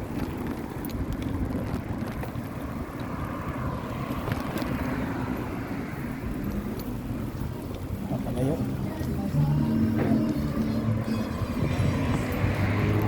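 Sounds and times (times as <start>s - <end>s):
low road noise rumble: 0.0s - 13.0s
wind rushing over microphone: 0.0s - 13.0s.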